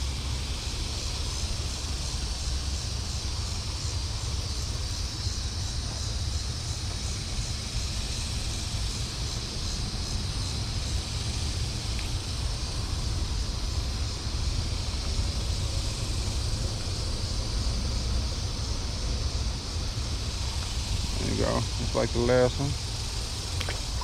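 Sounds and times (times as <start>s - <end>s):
steady high hiss: 0.0s - 24.0s.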